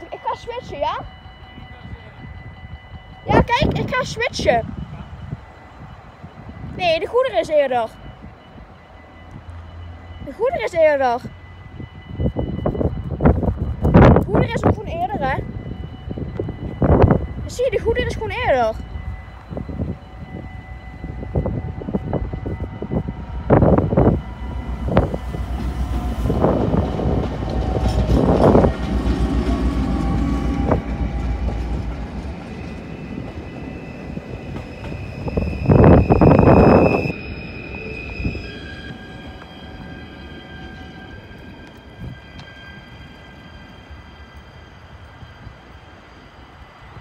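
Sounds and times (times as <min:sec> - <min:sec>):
train low rumble: 0:00.0 - 0:47.0.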